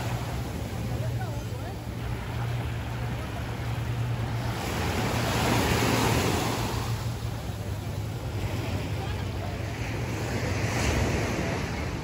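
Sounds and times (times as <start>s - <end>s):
surf washing up a beach: 0.0s - 12.0s.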